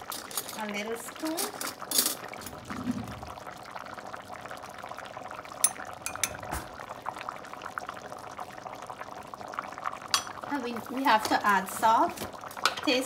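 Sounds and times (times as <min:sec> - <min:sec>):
pot bubbling on stove: 0:00.0 - 0:13.0.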